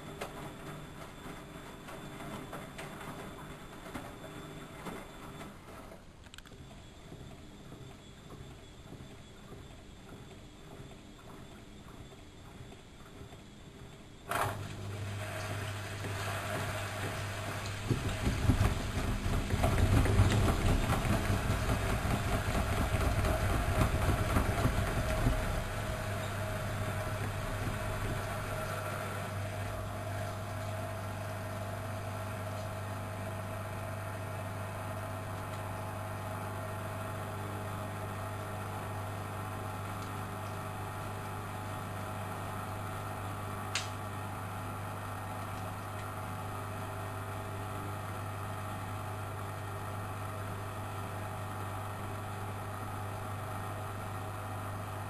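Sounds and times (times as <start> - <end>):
washing machine running: 0.0 - 55.0.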